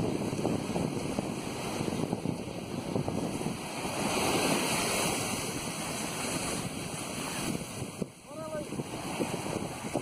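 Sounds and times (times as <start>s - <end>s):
surf washing up a beach: 0.0s - 10.0s
wind buffeting microphone: 0.0s - 10.0s.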